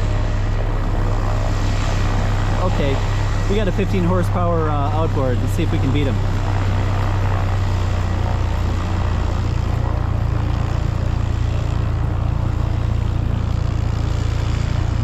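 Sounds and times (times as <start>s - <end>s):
motor droning: 0.0s - 15.0s.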